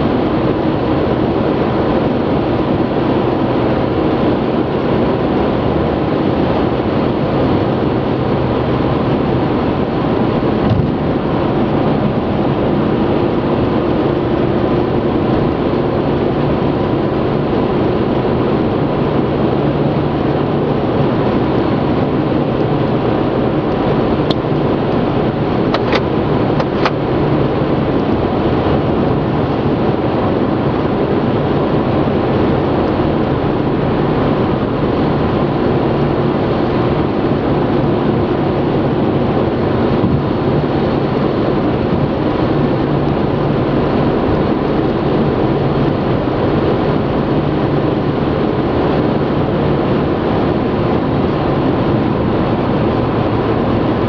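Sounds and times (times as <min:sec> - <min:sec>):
car engine hum: 0:00.0 - 0:54.0.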